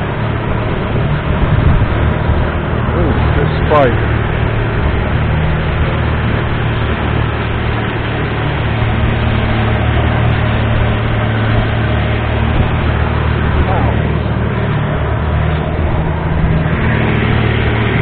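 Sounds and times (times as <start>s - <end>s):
boat diesel engine droning: 0.0s - 18.0s
water rushing along hull: 0.0s - 18.0s.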